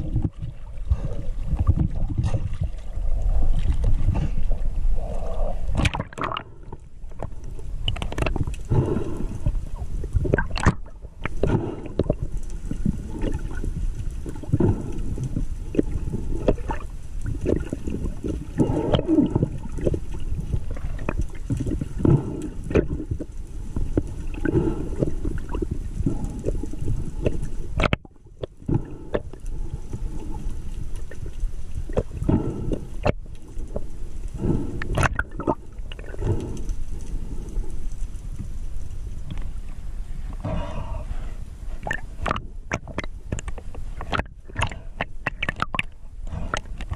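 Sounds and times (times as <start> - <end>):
underwater water rushing: 0.0 - 40.1.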